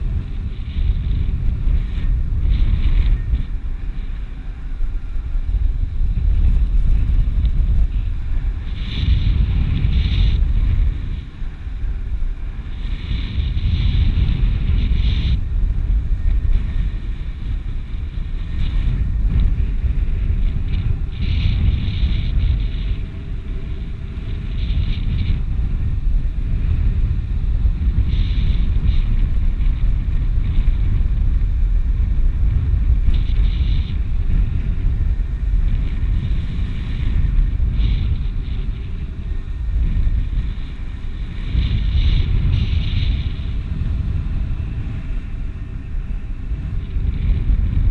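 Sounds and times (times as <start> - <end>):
strong wind buffeting microphone: 0.0 - 47.9.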